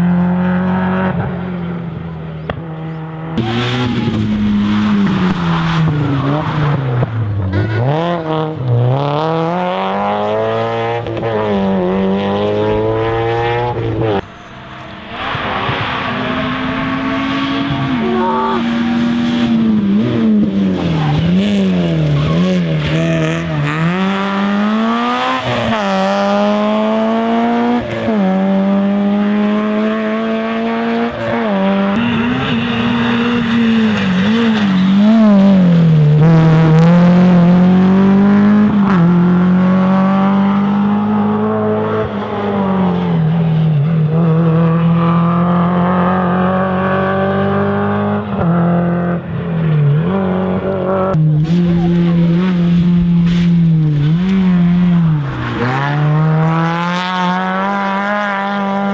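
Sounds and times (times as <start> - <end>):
rally car engine accelerating: 0.0 - 58.9.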